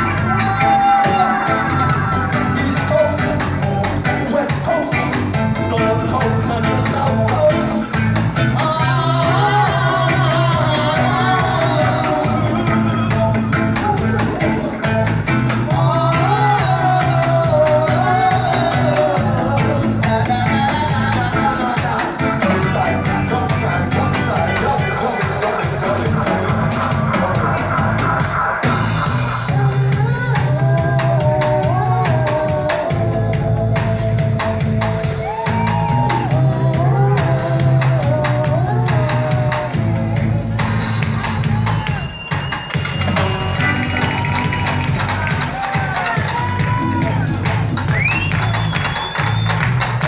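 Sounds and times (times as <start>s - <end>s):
person singing: 0.0s - 48.6s
live reggae band playing: 0.0s - 50.0s.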